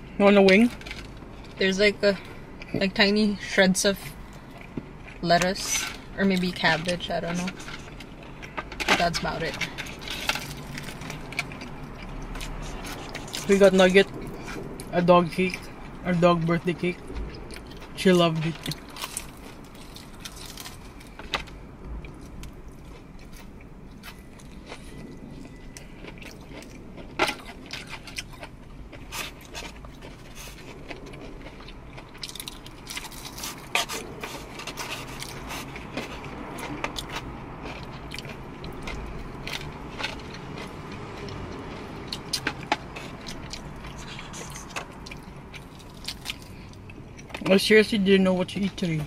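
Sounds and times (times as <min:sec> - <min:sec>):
chewing: 0:04.3 - 0:16.0, 0:16.9 - 0:47.5.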